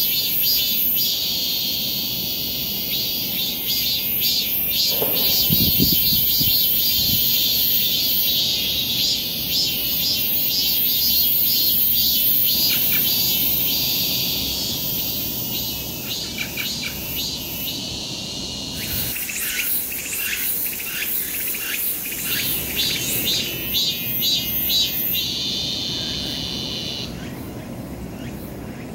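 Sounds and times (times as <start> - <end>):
insect chorus shrilling: 0.0 - 27.6.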